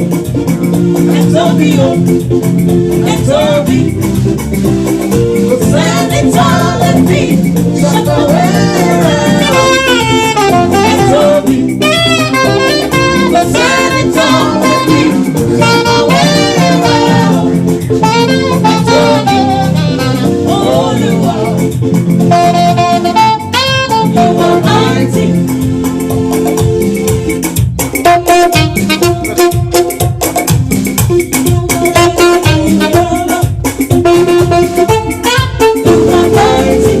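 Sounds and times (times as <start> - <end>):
live band with bass and percussion: 0.0 - 37.0
saxophone melody: 0.0 - 37.0.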